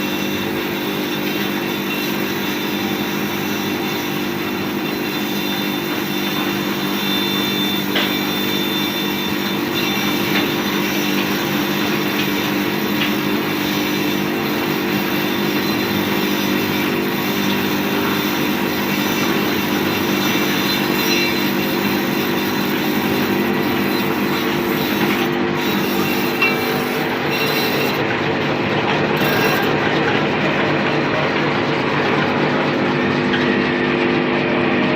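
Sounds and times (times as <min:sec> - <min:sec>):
sharpening machine humming and whirring: 0:00.0 - 0:34.9.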